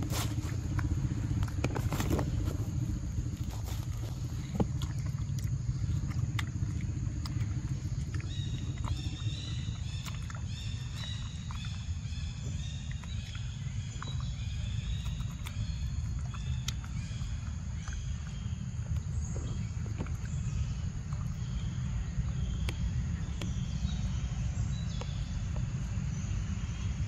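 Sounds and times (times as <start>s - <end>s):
low rumble: 0.0s - 27.0s
monkey chewing fruit: 0.0s - 27.0s.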